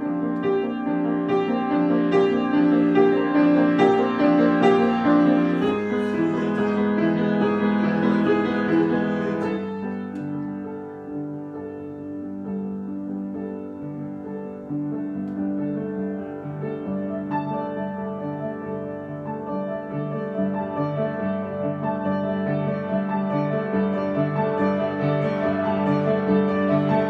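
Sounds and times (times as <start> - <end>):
piano playing: 0.0 - 27.0.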